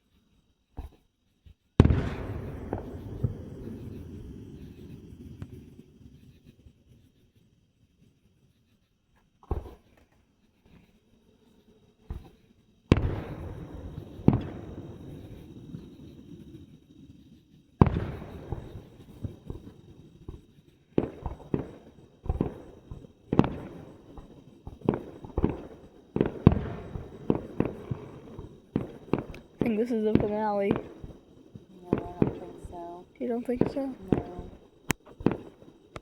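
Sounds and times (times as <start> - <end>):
fireworks bangs: 1.8 - 7.2, 9.4 - 36.0.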